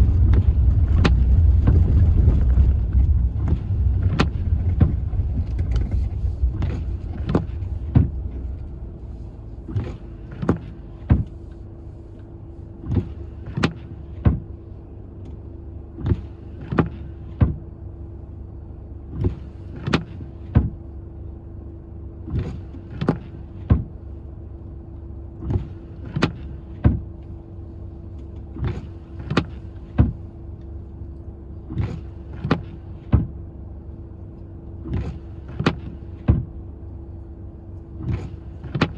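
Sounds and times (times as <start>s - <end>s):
low rumble inside car: 0.0s - 38.9s
steady car hum: 0.0s - 38.9s.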